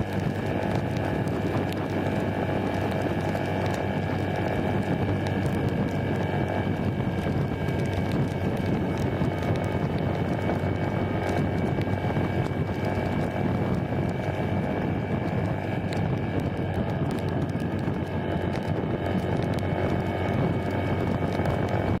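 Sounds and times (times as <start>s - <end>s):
motorcycle engine hum: 0.0s - 22.0s
raindrops ticking on microphone: 0.0s - 22.0s
wind rush on microphone: 0.0s - 22.0s.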